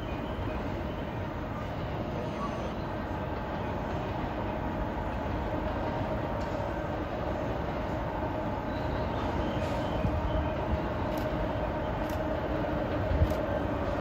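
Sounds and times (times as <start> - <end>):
electric locomotive hum: 0.0 - 14.0.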